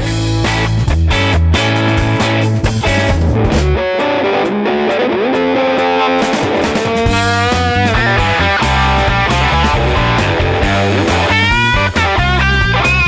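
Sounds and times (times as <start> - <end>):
rock music with electric guitar: 0.0 - 13.0.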